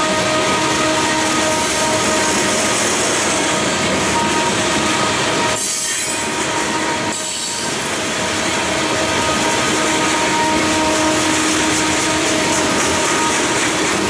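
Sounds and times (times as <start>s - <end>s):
train wheels rolling on rails: 0.0s - 14.0s.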